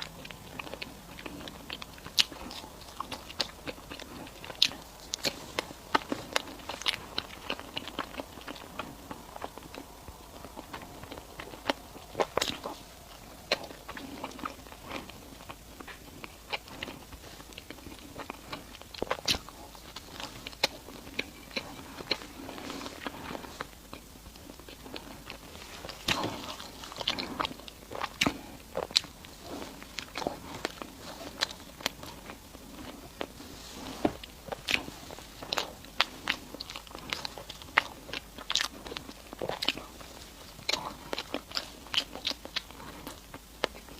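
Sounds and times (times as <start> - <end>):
chewing and biting food: 0.0 - 43.9
mouth clicks and smacks: 0.0 - 43.9.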